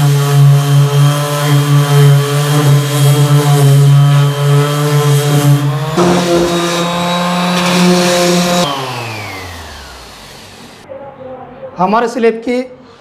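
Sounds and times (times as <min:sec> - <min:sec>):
orbital sander running: 0:00.0 - 0:10.8.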